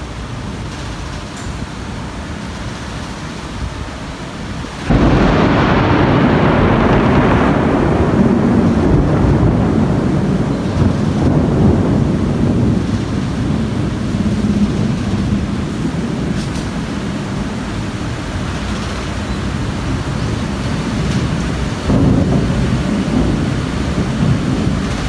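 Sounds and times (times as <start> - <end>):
rushing storm noise: 0.0 - 25.0
thunder rumbling: 4.6 - 25.0.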